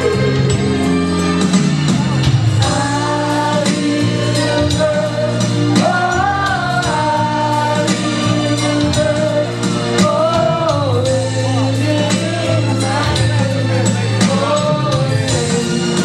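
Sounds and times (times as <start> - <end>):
man singing: 0.0 - 1.0, 2.6 - 16.0
band playing bass and drums: 0.0 - 16.0
woman singing: 2.6 - 16.0.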